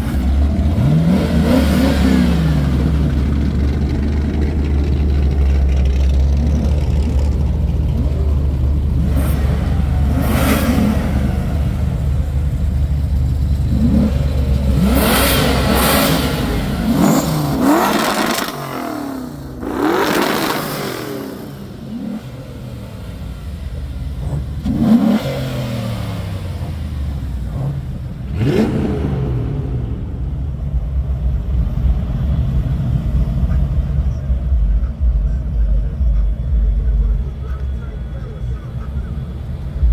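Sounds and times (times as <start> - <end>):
car engines revving: 0.0 - 39.9
low engine drone: 0.0 - 39.9.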